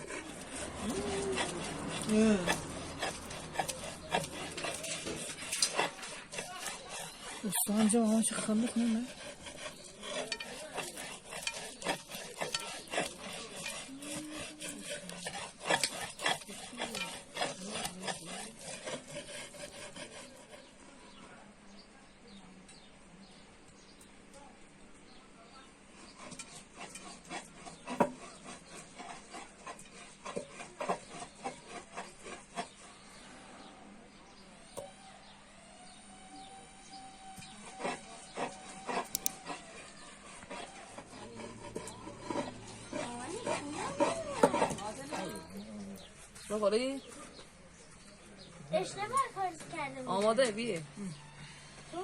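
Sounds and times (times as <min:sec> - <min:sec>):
utensil stirring and scraping pot: 0:00.0 - 0:21.4, 0:25.4 - 0:52.0.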